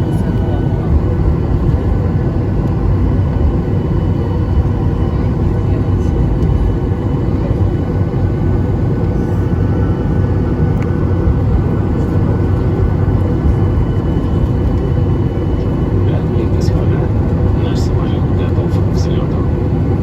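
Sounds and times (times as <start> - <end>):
aircraft cabin engine roar: 0.0 - 20.0.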